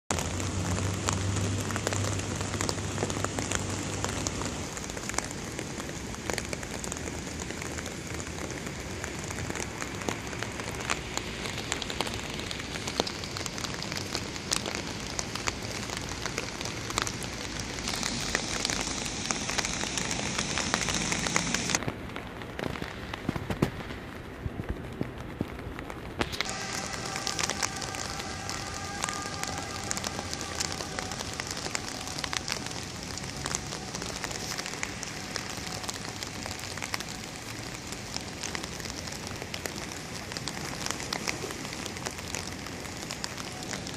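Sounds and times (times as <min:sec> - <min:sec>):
rain falling: 0:00.1 - 0:43.9
raindrops hitting close: 0:00.1 - 0:43.9.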